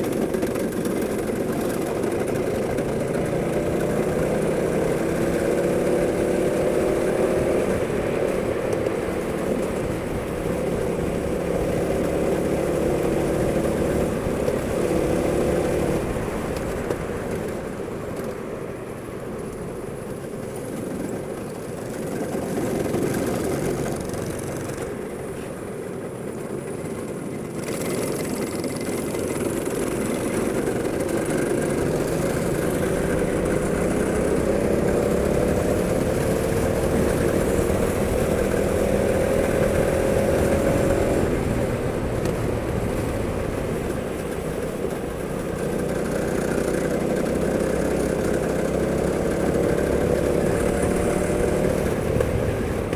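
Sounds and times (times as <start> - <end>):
go-kart engine running: 0.0 - 52.9.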